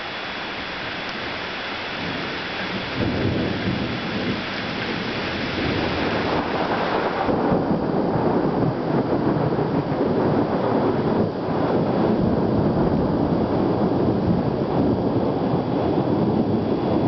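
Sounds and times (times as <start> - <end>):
rain on foliage: 0.0 - 13.9
low rumble of thunder: 1.2 - 17.0.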